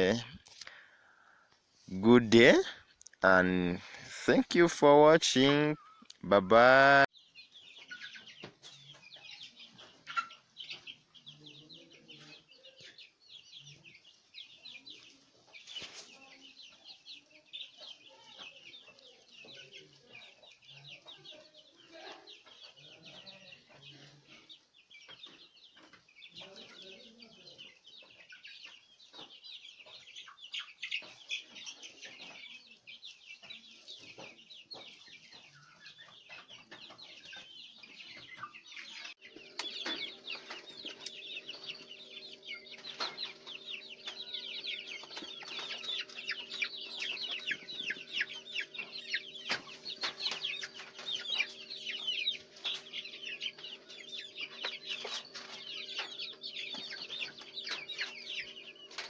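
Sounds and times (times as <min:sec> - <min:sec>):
chickens peeping: 0:00.0 - 0:59.0.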